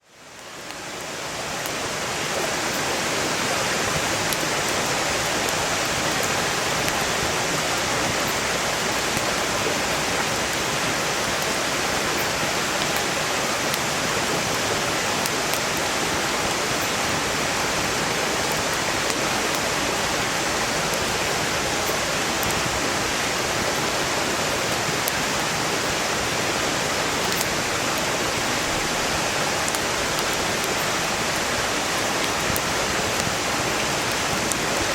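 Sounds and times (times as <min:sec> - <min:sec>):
firewood crackling: 0:00.0 - 0:34.9
stream flowing: 0:00.0 - 0:34.9.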